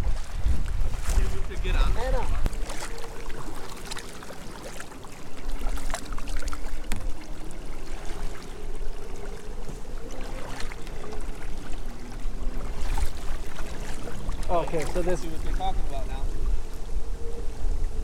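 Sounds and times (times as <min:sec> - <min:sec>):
water splashing off paddle blades: 0:00.0 - 0:16.8
wind rumble on microphone: 0:00.0 - 0:18.0.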